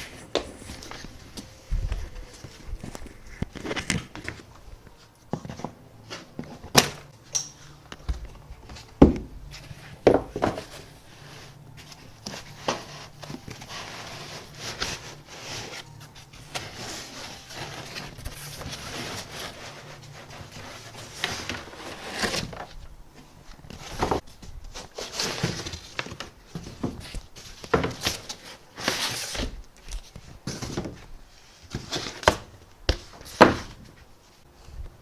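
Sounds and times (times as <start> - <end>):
packaging rustling and scraping: 0.0 - 35.0.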